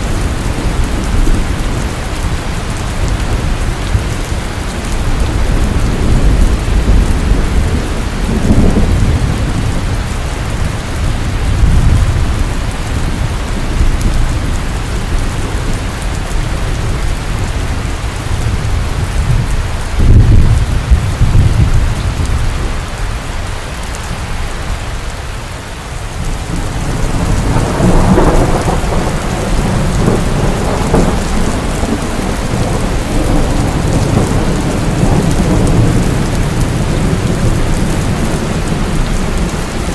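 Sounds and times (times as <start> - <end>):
thunder crack and rumble: 0.0 - 23.0, 26.1 - 39.9
steady rain: 0.0 - 39.9.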